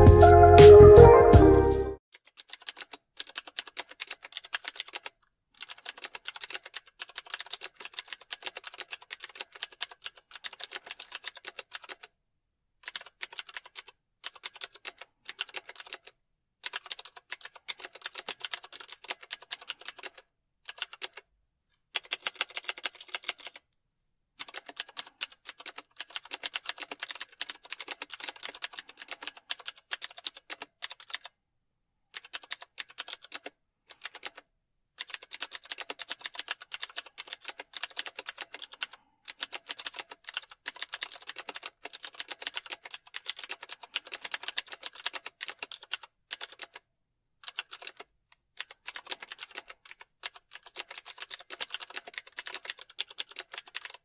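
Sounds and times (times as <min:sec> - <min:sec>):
computer keyboard typing: 0:02.2 - 0:12.1, 0:12.8 - 0:21.3, 0:21.9 - 0:23.7, 0:24.4 - 0:31.4, 0:32.1 - 0:46.8, 0:47.4 - 0:54.0.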